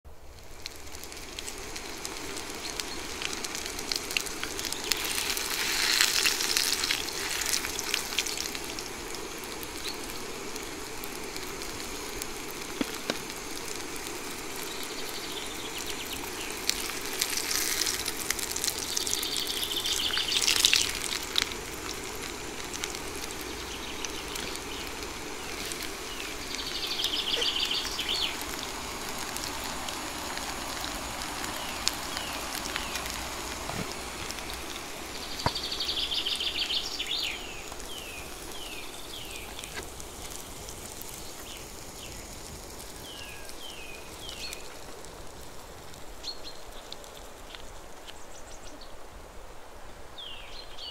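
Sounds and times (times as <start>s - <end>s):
patty sizzling in frying pan: 0.1s - 48.4s.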